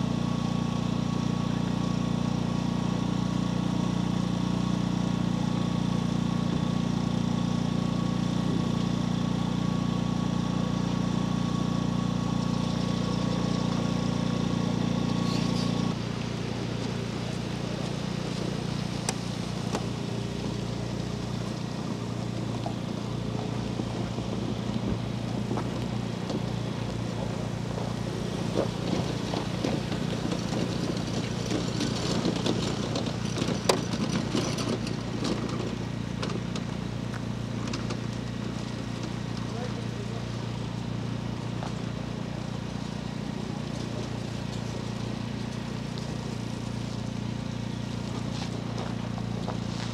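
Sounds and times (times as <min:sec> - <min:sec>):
engine idling: 0:00.0 - 0:49.9
rough engine hum: 0:00.0 - 0:49.9.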